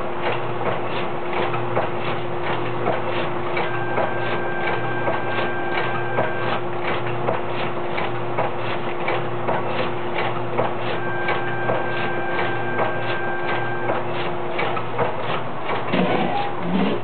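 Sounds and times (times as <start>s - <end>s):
loud low machine sound: 0.0s - 17.0s
steady machine hum: 0.0s - 17.0s.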